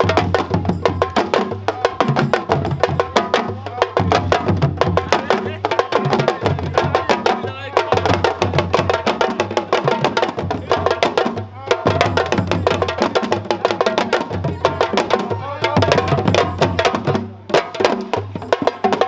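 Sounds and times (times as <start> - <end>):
hand drums playing fast rhythm: 0.0 - 19.0.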